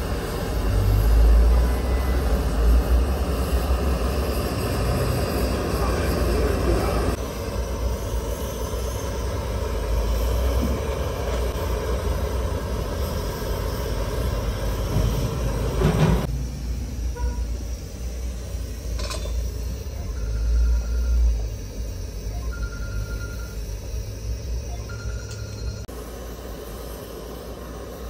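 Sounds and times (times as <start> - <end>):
butane torch hissing: 0.0 - 28.0
gas burner low rumble: 0.0 - 28.0.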